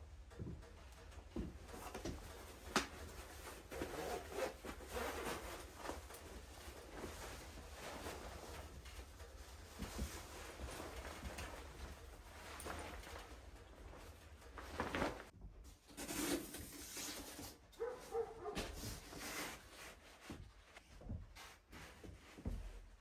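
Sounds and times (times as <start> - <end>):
rustling and light knocks: 0.1 - 15.6, 17.5 - 23.0.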